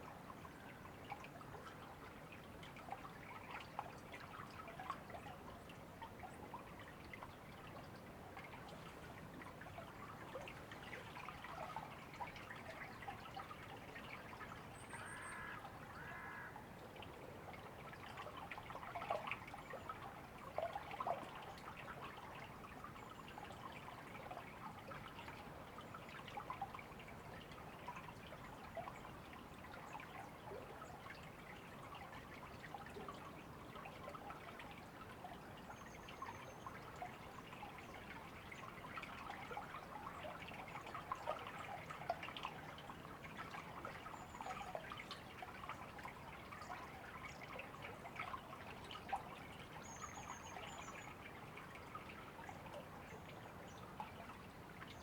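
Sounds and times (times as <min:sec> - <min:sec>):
river water trickling: 0:00.0 - 0:55.0.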